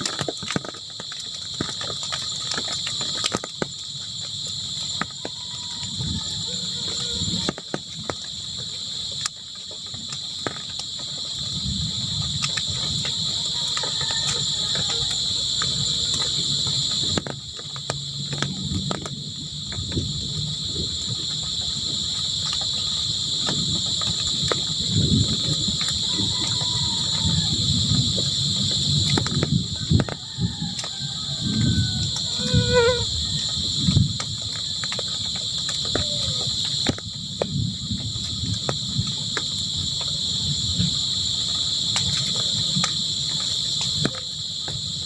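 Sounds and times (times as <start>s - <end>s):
crickets chirring: 0.0s - 45.0s.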